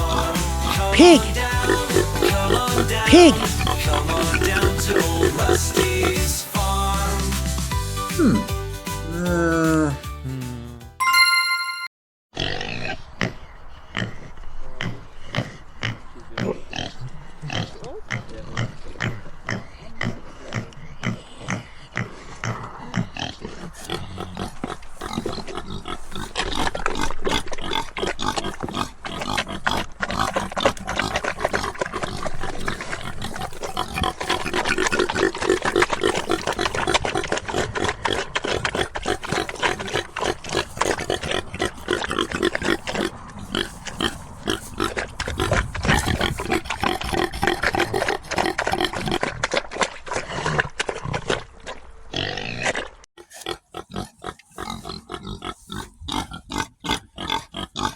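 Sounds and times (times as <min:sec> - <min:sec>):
pigs grunting and oinking: 0:00.0 - 0:06.6, 0:08.1 - 0:10.9, 0:12.4 - 0:51.5, 0:52.1 - 0:57.9.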